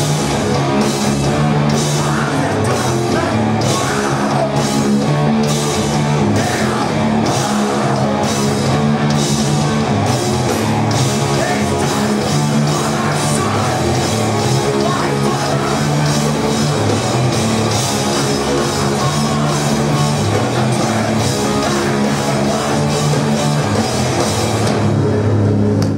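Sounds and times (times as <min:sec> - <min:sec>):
distorted electric guitars: 0:00.0 - 0:25.9
drum kit: 0:00.0 - 0:25.9.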